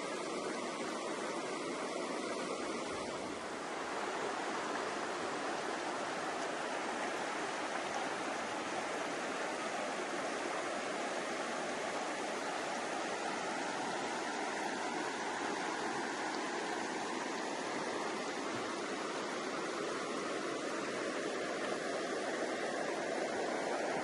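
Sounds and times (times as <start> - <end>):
falling water rushing: 0.0 - 24.0.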